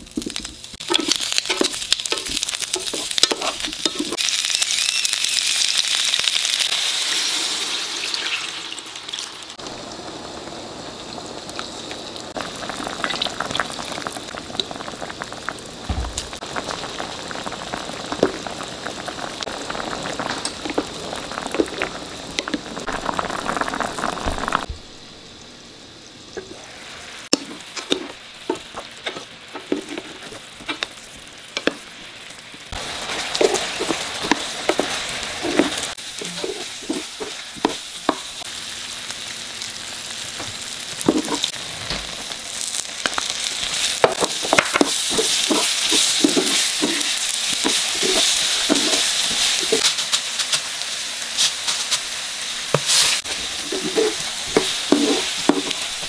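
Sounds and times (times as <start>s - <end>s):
crackling bubbling sauce: 0.0s - 56.0s
potatoes sizzling in oil: 0.0s - 56.0s
sauce boiling hard: 0.0s - 56.0s.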